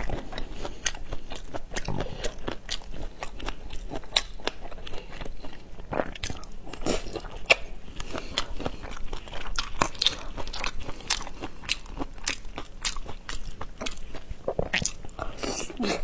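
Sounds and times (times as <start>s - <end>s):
crunchy chewing of shrimp: 0.0s - 16.0s.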